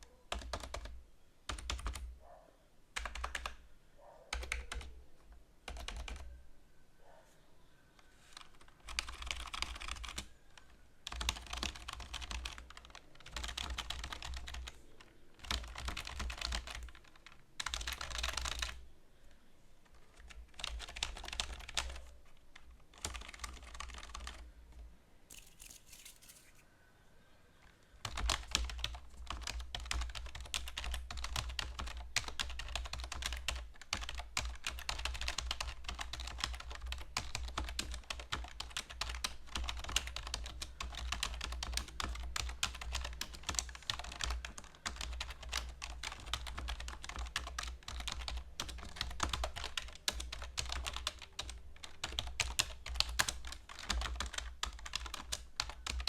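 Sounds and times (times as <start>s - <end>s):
typing on computer keyboard: 0.3s - 2.1s, 3.0s - 3.6s, 4.3s - 5.0s, 5.7s - 6.3s, 8.4s - 14.8s, 15.4s - 18.8s, 19.9s - 24.4s, 28.0s - 56.0s.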